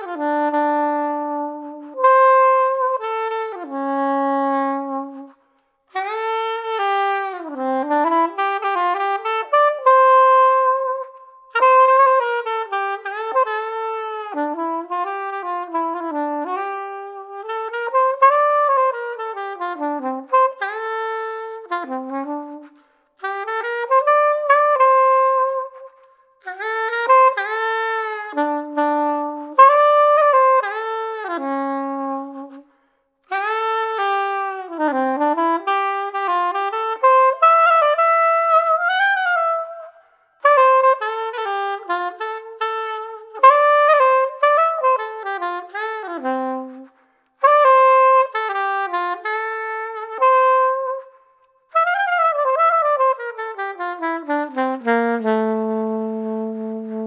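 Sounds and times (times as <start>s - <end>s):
soprano saxophone melody: 0.0s - 57.0s.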